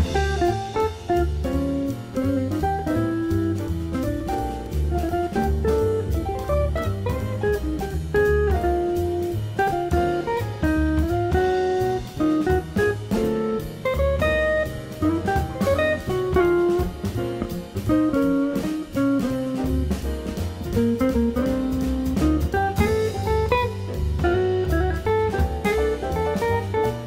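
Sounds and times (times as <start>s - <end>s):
bass: 0.0s - 27.0s
drums on cymbals: 0.0s - 27.0s
jazz guitar melody: 0.0s - 27.0s.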